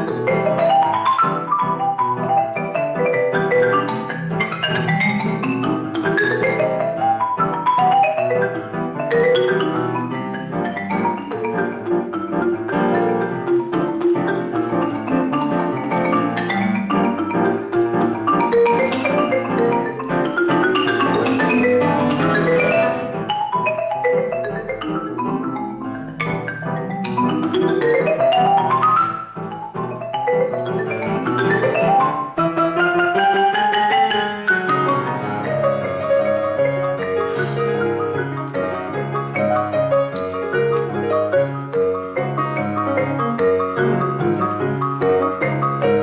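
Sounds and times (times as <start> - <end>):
marimba playing rapid notes: 0.0 - 46.0.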